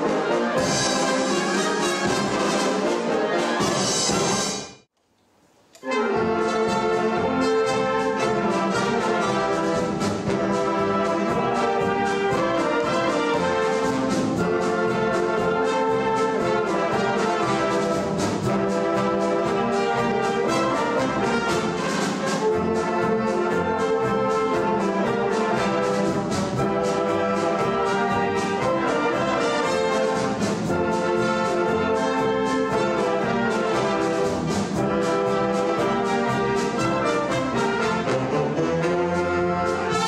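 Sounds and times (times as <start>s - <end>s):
drum kit: 0.0s - 4.8s, 5.8s - 40.0s
brass instruments: 0.0s - 4.9s, 5.8s - 40.0s
woodwinds: 0.0s - 4.9s, 5.8s - 40.0s.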